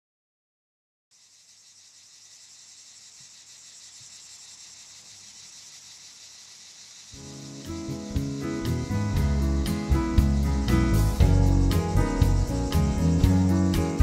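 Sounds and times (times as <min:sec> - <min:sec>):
insects chirring: 0:01.1 - 0:14.0.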